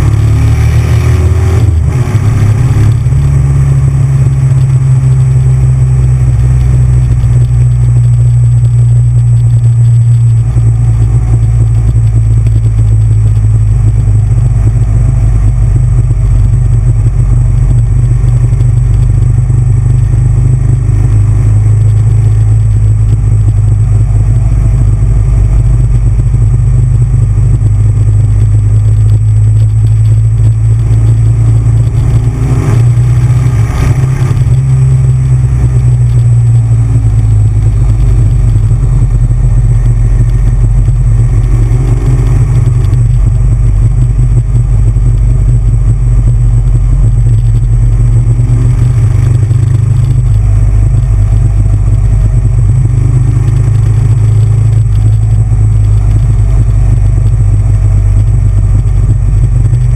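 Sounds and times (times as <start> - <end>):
motorcycle engine rumbling: 0.0 - 59.9.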